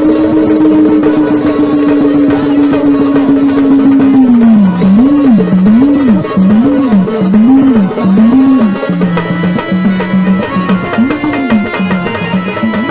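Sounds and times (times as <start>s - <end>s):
fast hand drum rhythm: 0.0s - 12.9s.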